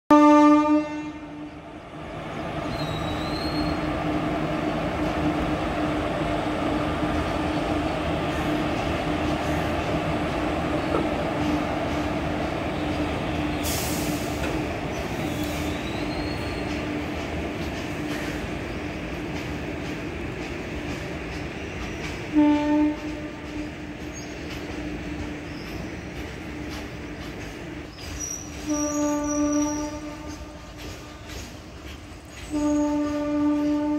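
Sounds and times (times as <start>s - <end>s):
train wheels rumbling on rail: 0.1s - 33.9s.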